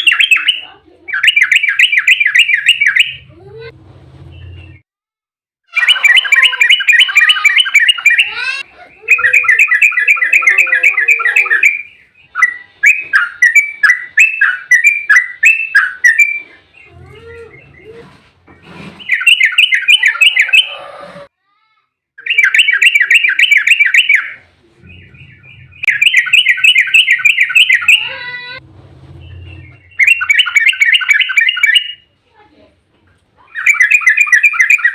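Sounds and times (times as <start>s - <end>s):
bird singing rapid chatter: 0.0s - 3.3s, 5.7s - 18.1s, 18.9s - 20.8s, 22.2s - 28.3s, 29.1s - 32.1s, 33.5s - 34.9s.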